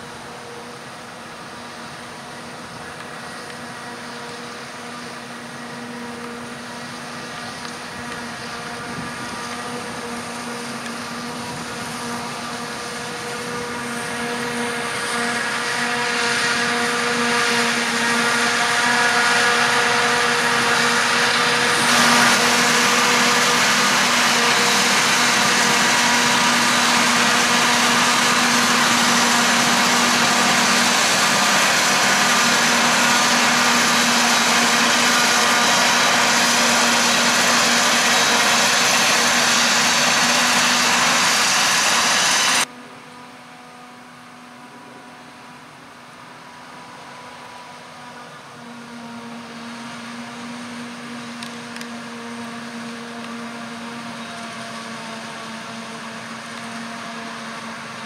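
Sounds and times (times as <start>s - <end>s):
forage harvester droning: 0.0s - 58.0s.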